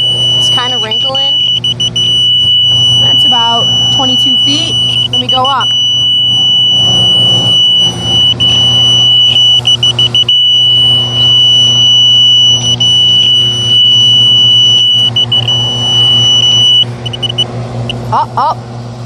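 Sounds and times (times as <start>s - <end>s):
high-pitched probe tone: 0.0s - 18.5s
truck engine humming: 0.0s - 19.0s.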